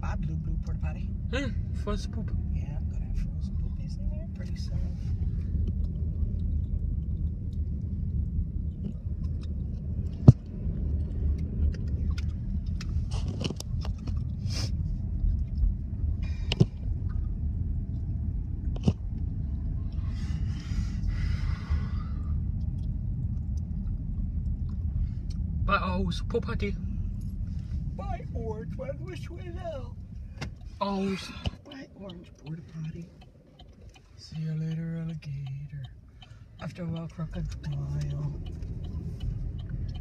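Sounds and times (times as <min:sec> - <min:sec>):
car cabin rumble: 0:00.0 - 0:40.0.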